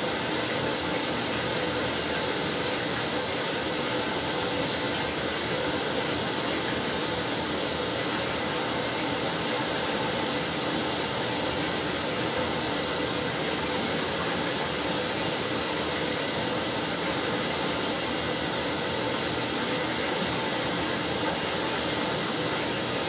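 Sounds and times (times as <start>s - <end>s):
washing machine churning: 0.0s - 23.0s.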